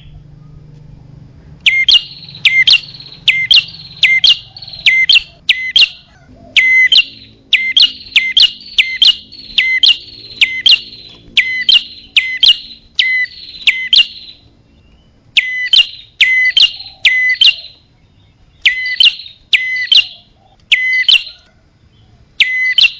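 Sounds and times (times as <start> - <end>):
bird chirps: 1.5 - 22.9.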